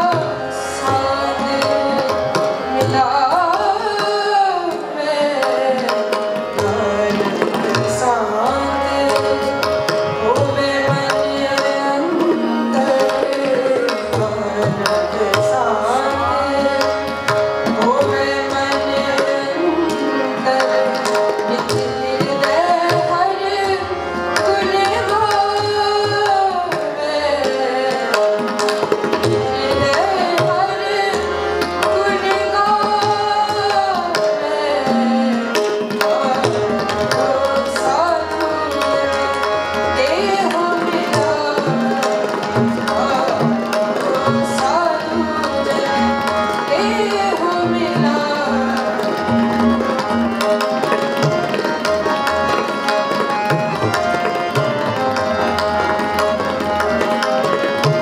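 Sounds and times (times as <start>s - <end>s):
woman singing: 0.0s - 49.9s
harmonium chords: 0.0s - 58.0s
tabla playing steady rhythm: 0.0s - 58.0s.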